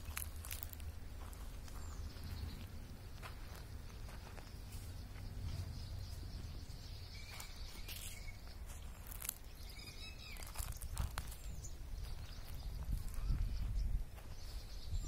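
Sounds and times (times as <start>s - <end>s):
wind rumble on microphone: 0.0s - 9.3s, 9.9s - 15.0s
faint bird chirps: 1.2s - 15.0s.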